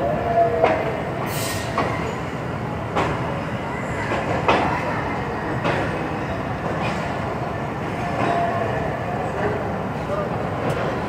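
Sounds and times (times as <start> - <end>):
train coach rumbling: 0.0 - 11.0.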